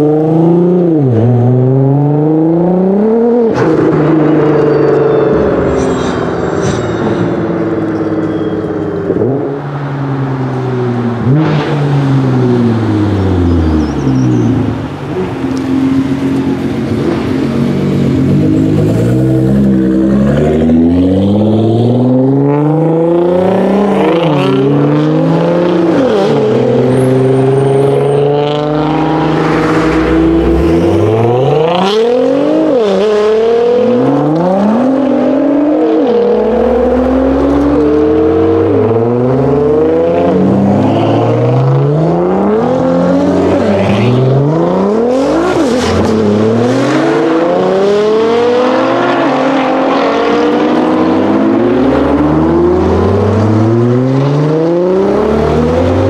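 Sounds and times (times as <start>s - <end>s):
car engine accelerating hard: 10.8s - 56.0s.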